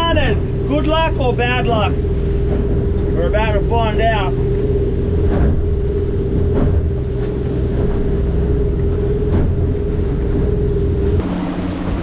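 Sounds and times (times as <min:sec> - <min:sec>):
motorboat engine running: 0:00.0 - 0:12.0
water splashing: 0:00.0 - 0:12.0.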